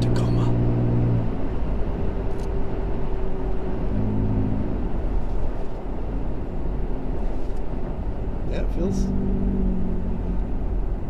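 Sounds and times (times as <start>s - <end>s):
pickup engine and road rumble: 0.0s - 11.0s.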